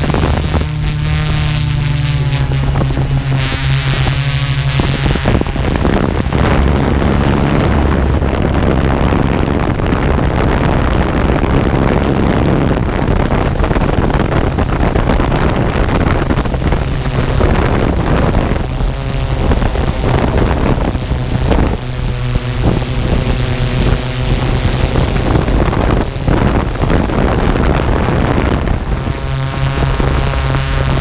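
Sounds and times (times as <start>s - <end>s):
drone buzzing hum: 0.0s - 31.0s
wind buffeting microphone: 0.0s - 31.0s.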